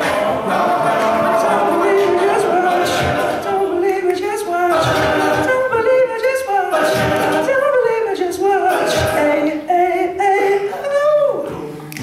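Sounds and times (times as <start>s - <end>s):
male group singing a cappella: 0.0s - 12.0s.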